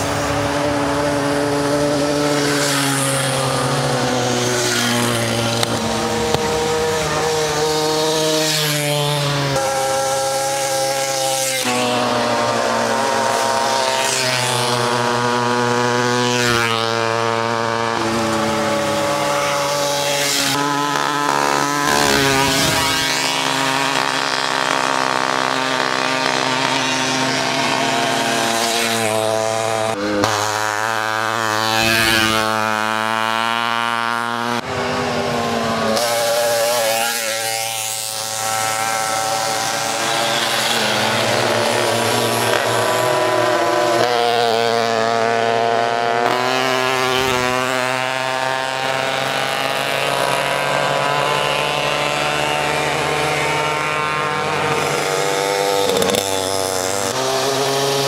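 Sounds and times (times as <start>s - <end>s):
moped engines revving: 0.0s - 58.0s.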